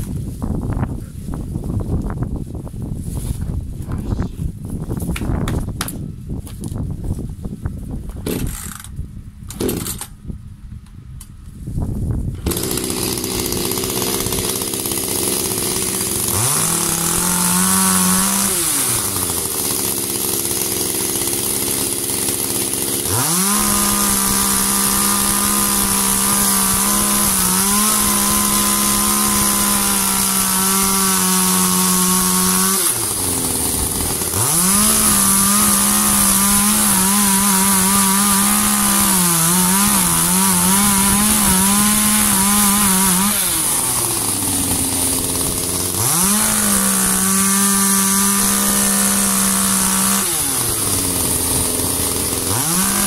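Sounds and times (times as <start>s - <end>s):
chainsaw revving and cutting log: 8.3s - 10.1s, 12.4s - 53.0s.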